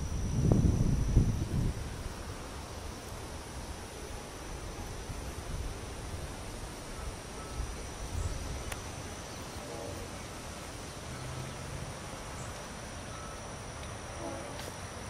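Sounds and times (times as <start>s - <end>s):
wind rumbling on microphone: 0.0s - 12.9s
high-pitched insect drone: 0.0s - 15.0s.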